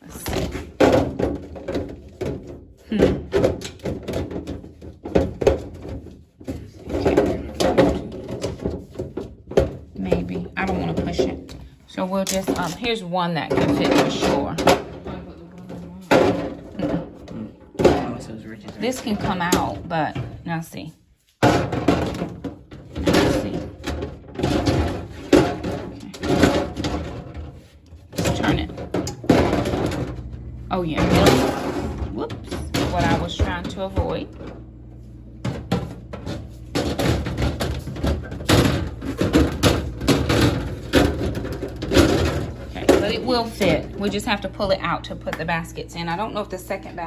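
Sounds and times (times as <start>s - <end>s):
plastic basket knocking and scraping: 0.0s - 47.0s.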